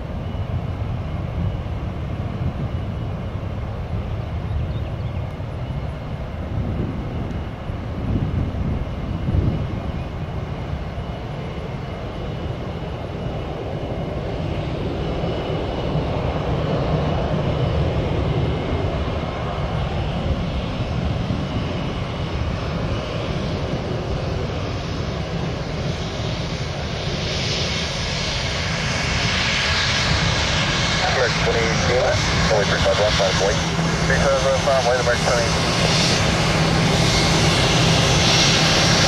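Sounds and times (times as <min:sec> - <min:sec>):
jet engines rumbling and whining: 0:00.0 - 0:39.0.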